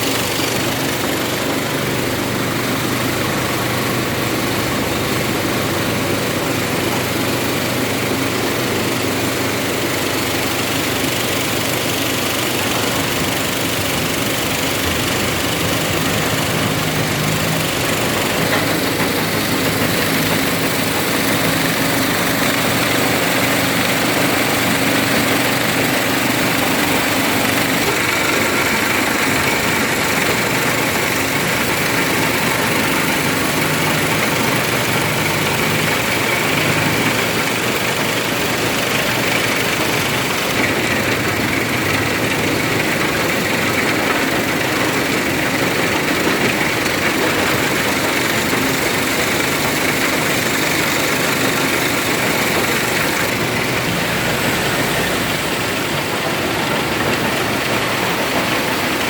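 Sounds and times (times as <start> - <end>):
stone-crushing machine running: 0.0 - 59.0.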